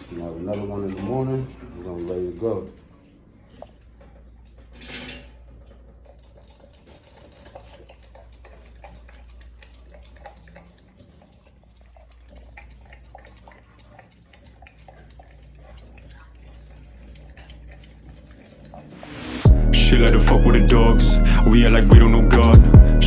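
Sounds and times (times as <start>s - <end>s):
dog eating wet food: 0.0s - 23.0s.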